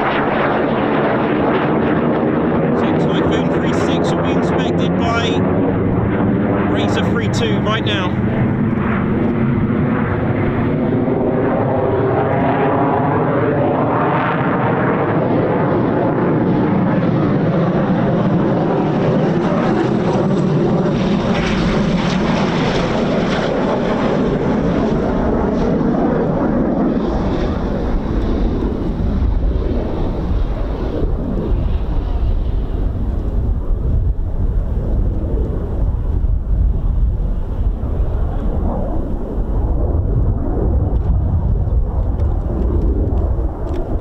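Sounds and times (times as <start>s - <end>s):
deep jet rumble: 0.0s - 44.0s
jet engine roar: 0.0s - 44.0s.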